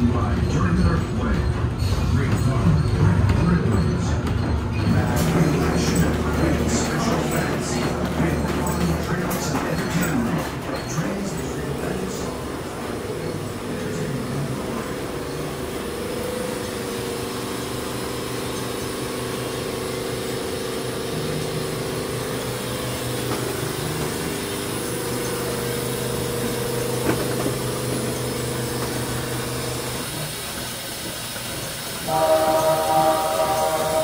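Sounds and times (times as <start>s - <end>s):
subway car idling hum: 0.0s - 34.0s.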